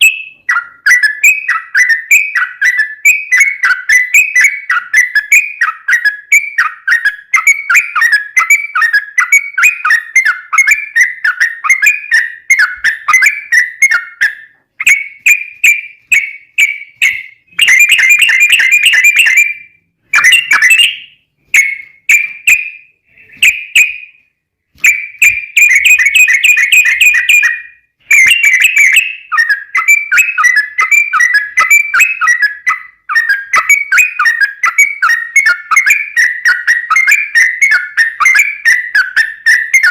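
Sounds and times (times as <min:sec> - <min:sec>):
bird singing bubbly whistled notes: 0:00.0 - 0:39.9.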